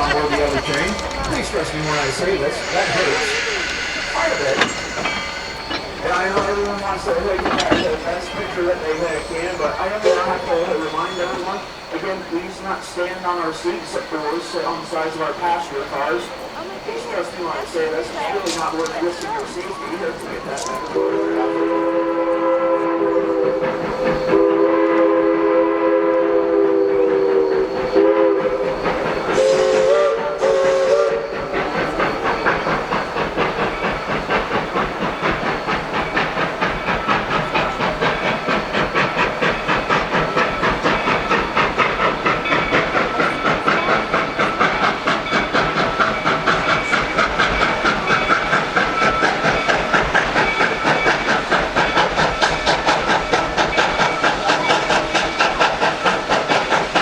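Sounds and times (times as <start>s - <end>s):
locomotive exhaust chuffing: 0.0s - 57.0s
steam hissing: 0.0s - 57.0s
steam locomotive whistle: 0.0s - 57.0s.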